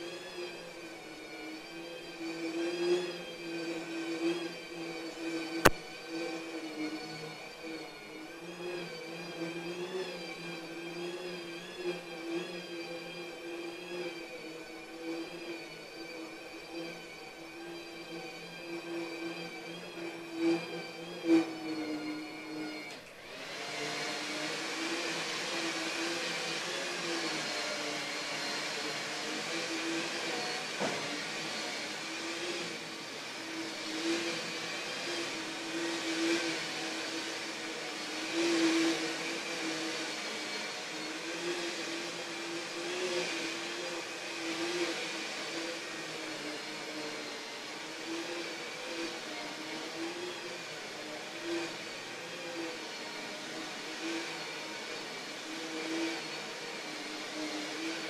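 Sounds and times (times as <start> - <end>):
carpet vacuum machine running: 0.0 - 58.0.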